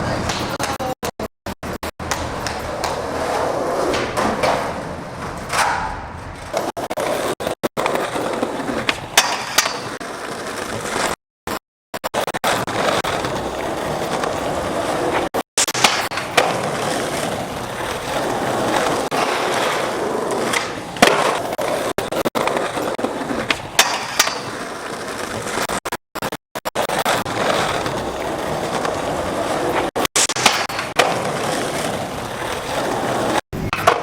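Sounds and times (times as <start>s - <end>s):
skateboard wheels rolling on pavement: 0.0s - 0.9s, 1.5s - 11.2s, 12.5s - 26.0s, 26.8s - 34.0s
skateboard clacking on ground: 0.0s - 11.1s, 12.7s - 25.7s, 27.0s - 34.0s.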